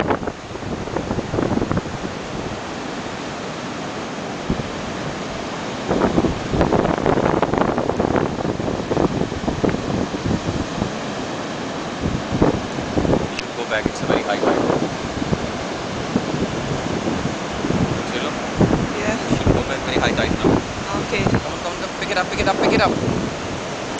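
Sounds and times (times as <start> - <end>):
ocean surf breaking: 0.0 - 23.9
wind buffeting microphone: 0.0 - 23.9.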